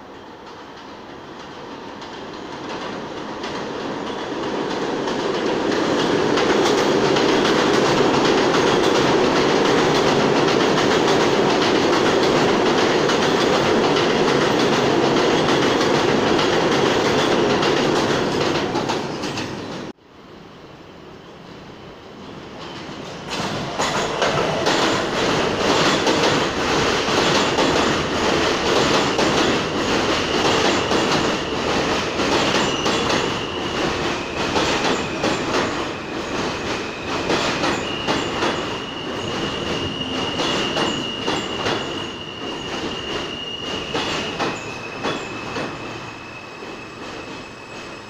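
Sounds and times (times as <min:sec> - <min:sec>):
subway train rumble and wheel clatter: 0:00.0 - 0:48.0.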